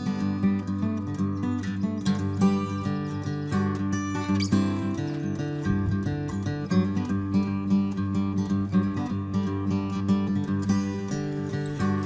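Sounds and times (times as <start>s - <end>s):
strummed acoustic guitar music: 0.0s - 12.0s.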